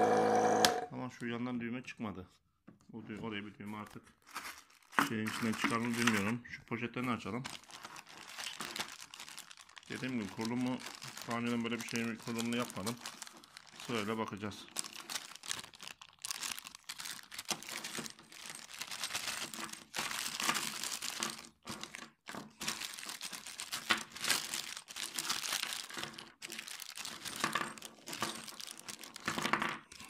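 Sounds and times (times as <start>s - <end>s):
plastic bags crinkling: 4.2s - 29.6s.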